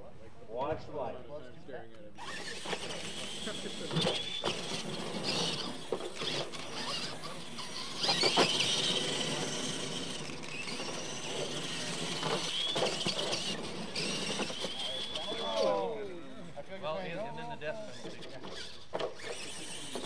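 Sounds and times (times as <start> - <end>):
rc truck motor whine: 2.2 - 20.0.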